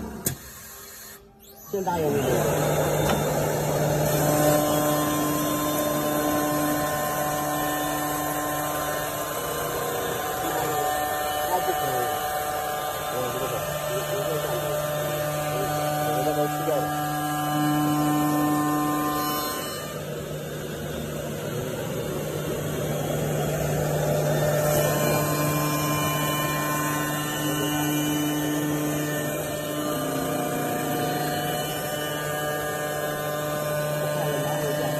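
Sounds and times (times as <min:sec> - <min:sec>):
wood-turning lathe running: 0:00.0 - 0:34.9
woodworking machine hum and whine: 0:00.0 - 0:34.9.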